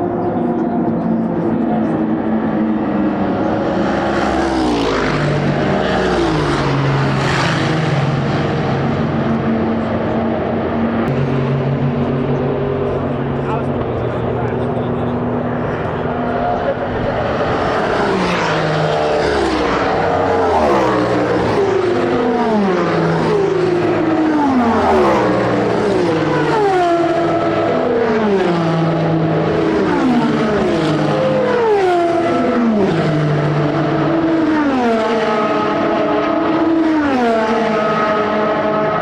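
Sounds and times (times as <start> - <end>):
race cars passing at speed: 0.0 - 39.0.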